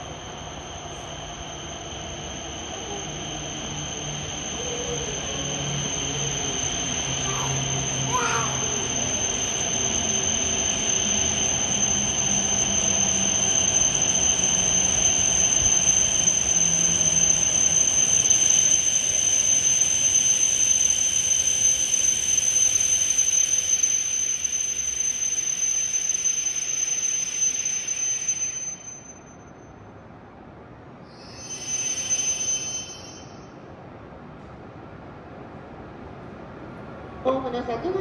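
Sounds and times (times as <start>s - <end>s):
train braking with high whine: 0.0s - 38.0s.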